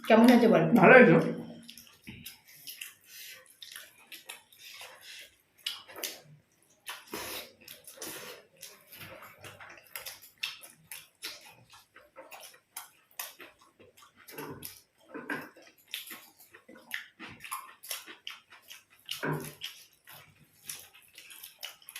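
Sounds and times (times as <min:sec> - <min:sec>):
wet chewing and lip-smacking: 0:01.2 - 0:21.9.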